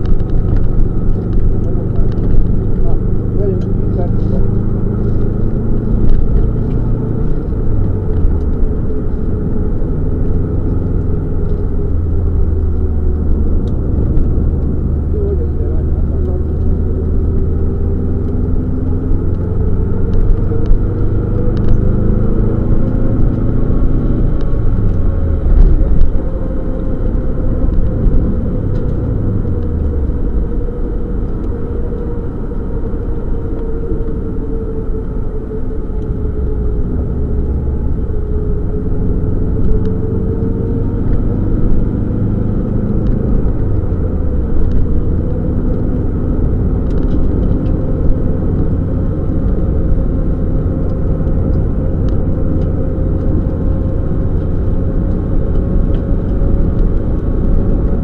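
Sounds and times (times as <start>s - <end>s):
rally car engine revving: 0.0s - 58.0s
road and tyre noise: 0.0s - 58.0s.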